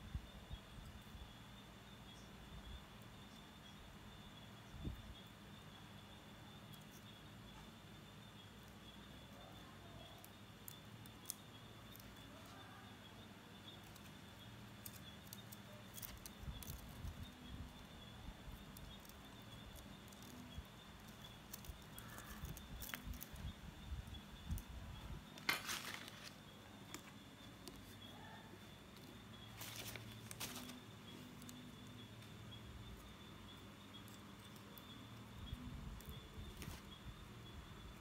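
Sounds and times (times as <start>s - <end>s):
faint hum: 0.0s - 38.0s.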